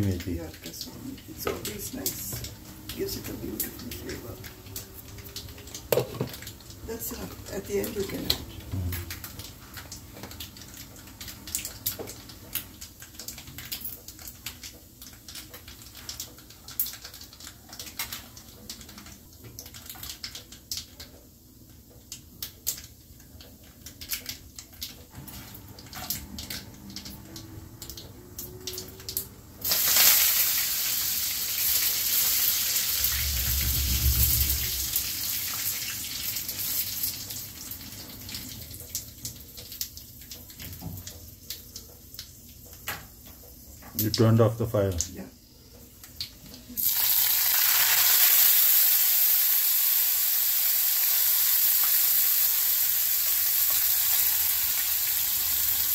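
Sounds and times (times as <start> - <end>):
seeds crackling in hot oil: 0.0 - 25.2, 25.9 - 55.9
loud sizzle in oil: 0.0 - 29.0, 29.6 - 44.3, 45.4 - 55.9.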